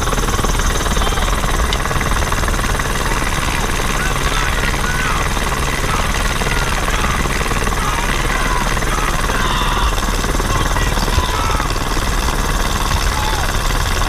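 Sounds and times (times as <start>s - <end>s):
helicopter rotor and engine: 0.0s - 14.0s.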